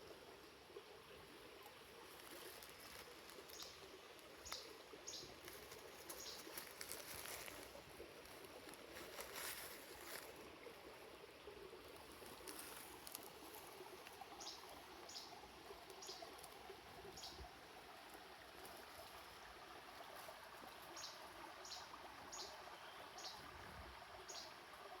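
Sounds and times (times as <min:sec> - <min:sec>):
soft woodland rush: 0:00.0 - 0:25.0.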